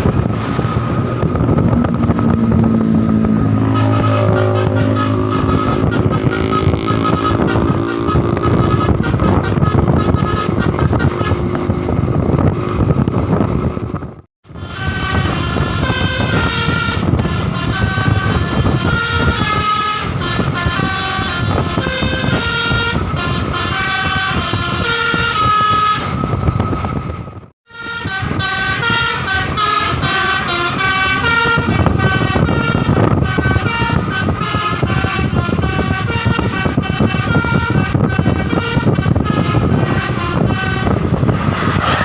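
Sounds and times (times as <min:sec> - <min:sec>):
bus engine rumble: 0:00.0 - 0:42.0
multi-tone air horn melody: 0:00.1 - 0:12.3, 0:14.5 - 0:26.4, 0:27.7 - 0:42.0.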